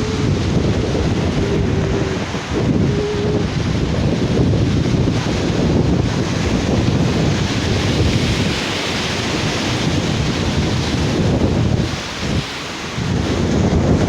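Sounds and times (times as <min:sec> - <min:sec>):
sea surf washing on beach: 0:00.0 - 0:14.0
wind buffeting microphone: 0:00.0 - 0:14.0.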